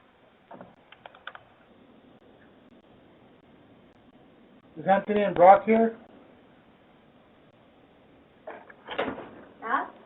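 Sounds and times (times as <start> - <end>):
faint microphone hiss: 0.0 - 10.0.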